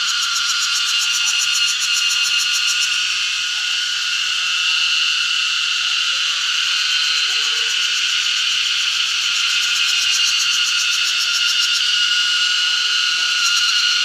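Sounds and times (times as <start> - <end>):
cicadas singing: 0.0 - 14.0
rapidly pulsing high buzz: 0.0 - 14.0.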